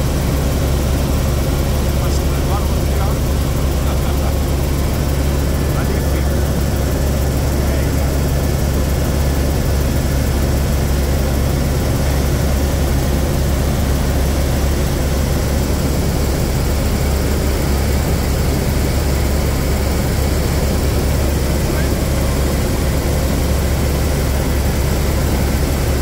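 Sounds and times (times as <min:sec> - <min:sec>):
helicopter cabin drone: 0:00.0 - 0:26.0.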